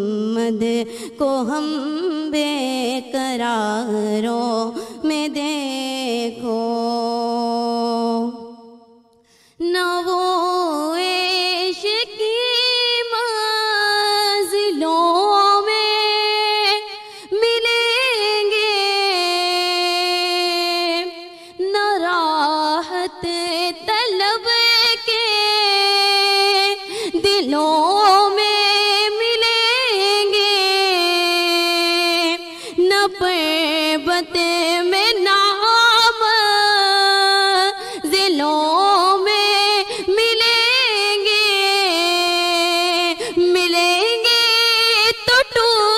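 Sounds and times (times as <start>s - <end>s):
woman singing into a microphone: 0.0s - 45.9s.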